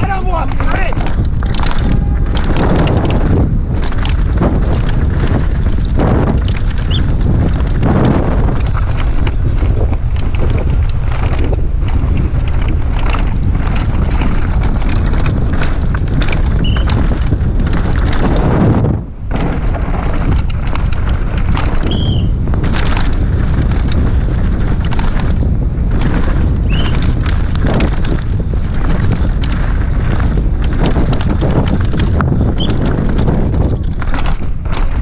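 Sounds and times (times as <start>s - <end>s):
bike knocks and rattles: 0.0s - 35.0s
tyre rumble: 0.0s - 35.0s
wind buffeting microphone: 0.0s - 35.0s.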